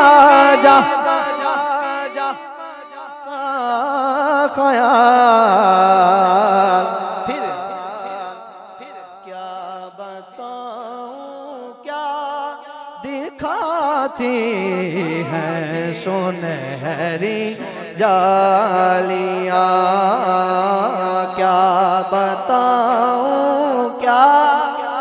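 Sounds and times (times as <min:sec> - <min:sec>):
man singing into microphone: 0:00.0 - 0:25.0.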